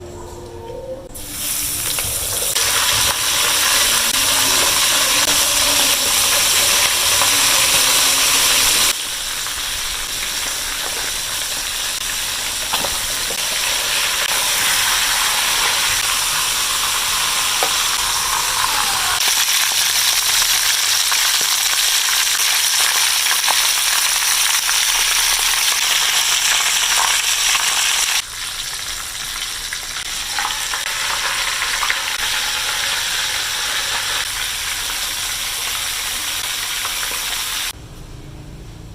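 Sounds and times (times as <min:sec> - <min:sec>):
food frying in hot oil: 0:01.4 - 0:37.8.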